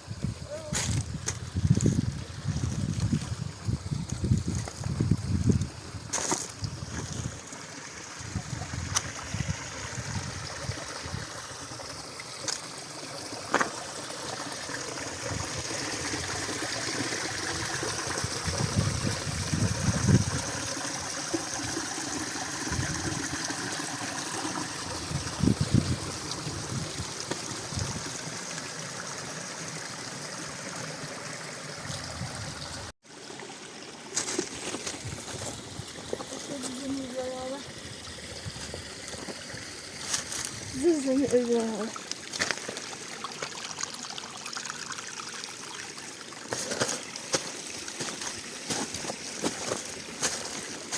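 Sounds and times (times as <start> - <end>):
mountain stream running: 0.0 - 50.9.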